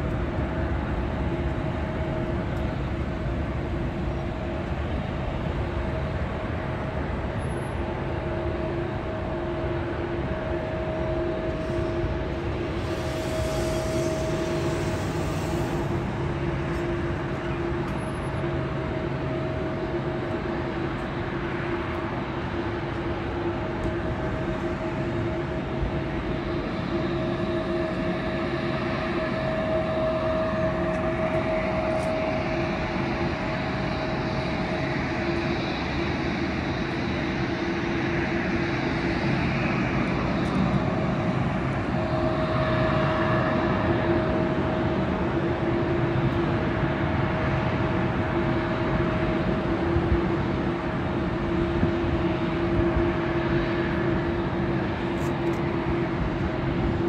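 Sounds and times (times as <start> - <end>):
jet engine rushing: 6.2 - 57.0.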